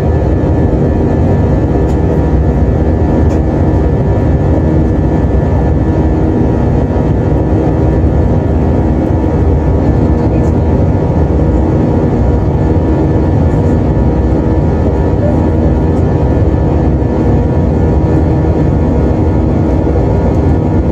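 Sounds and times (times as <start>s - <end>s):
jet airliner cabin rumble: 0.0s - 20.9s.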